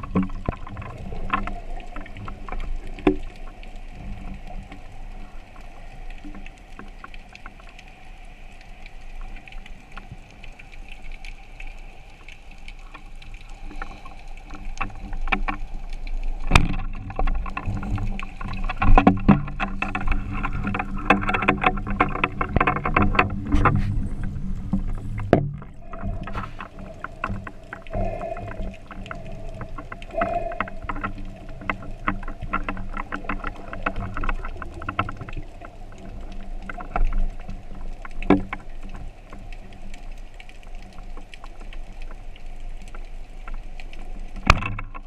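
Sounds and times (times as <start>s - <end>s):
crackle of clicks and knocks: 0.0s - 45.0s
underwater drone: 0.0s - 45.0s.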